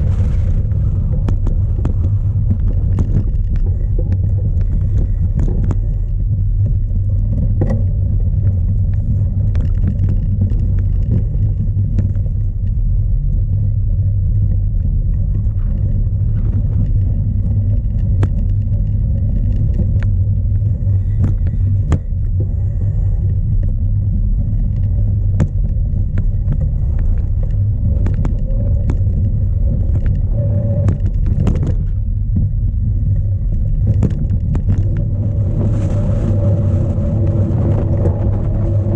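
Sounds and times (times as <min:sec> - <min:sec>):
bike rattling clicks and knocks: 0:00.0 - 0:35.5
wind buffeting microphone: 0:00.0 - 0:38.9.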